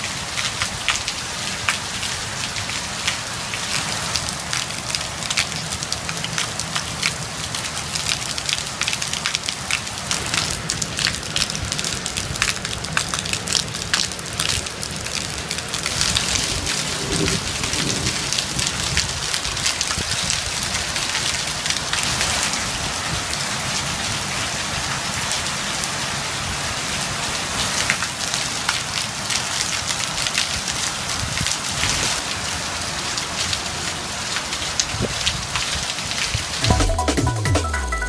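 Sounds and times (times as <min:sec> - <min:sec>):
raindrops ticking close by: 0:00.0 - 0:24.1, 0:27.6 - 0:37.8
heavy rain pouring: 0:00.0 - 0:38.0.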